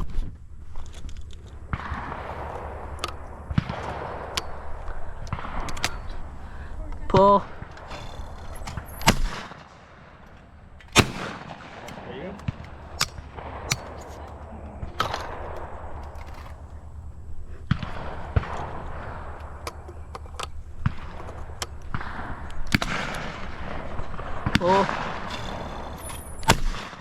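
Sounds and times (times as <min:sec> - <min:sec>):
shotgun shots: 0:01.6 - 0:27.0.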